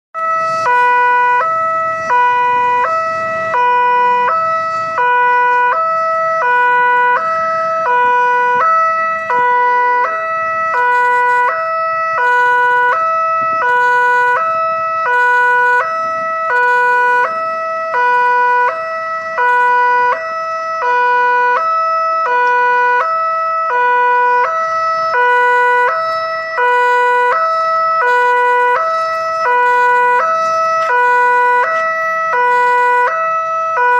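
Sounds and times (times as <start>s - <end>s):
level crossing two-tone alarm: 0.2s - 33.9s.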